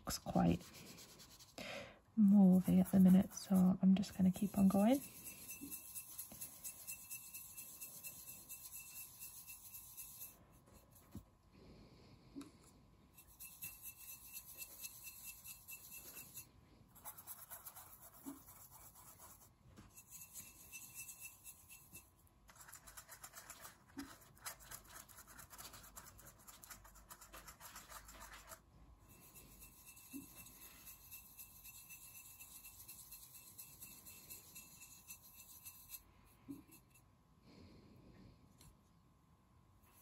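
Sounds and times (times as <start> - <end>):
paintbrush scratching on a plate: 0.0 - 1.6, 2.2 - 11.2, 13.1 - 37.1.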